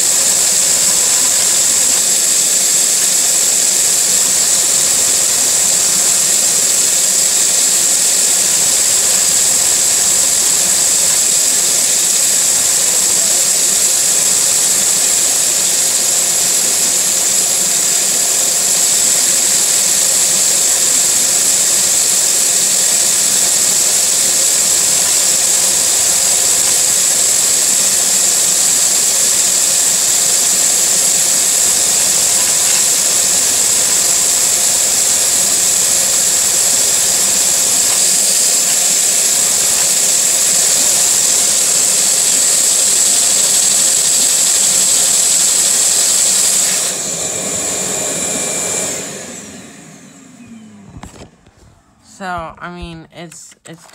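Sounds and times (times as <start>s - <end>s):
rushing air with high whine: 0.0s - 25.2s, 25.8s - 52.9s.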